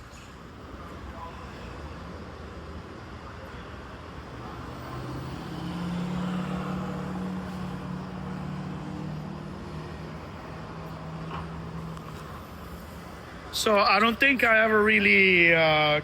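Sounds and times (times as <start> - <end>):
vehicle engine droning: 0.6 - 13.7.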